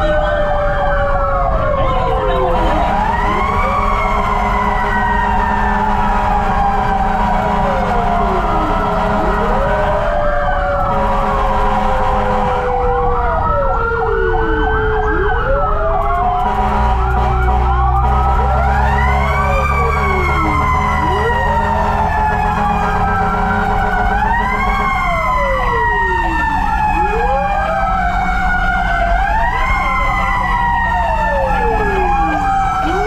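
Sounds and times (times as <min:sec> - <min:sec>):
fire truck sirens wailing: 0:00.0 - 0:33.0
siren yelp: 0:00.0 - 0:33.0
truck engine rumble: 0:00.0 - 0:33.0.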